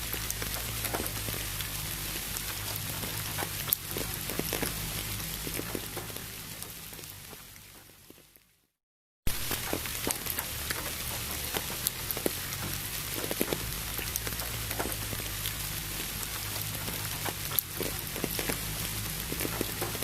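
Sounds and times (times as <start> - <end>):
low steady hum: 0.0 - 8.1, 9.3 - 20.0
rain drops pattering: 0.0 - 8.7, 9.3 - 20.0.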